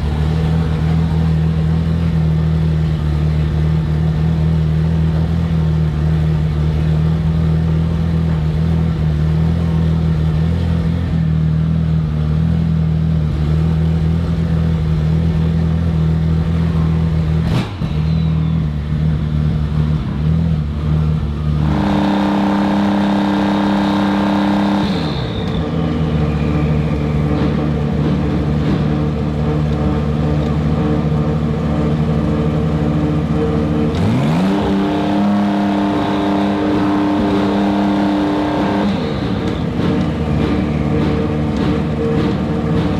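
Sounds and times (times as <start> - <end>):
race car engine running: 0.0 - 42.9.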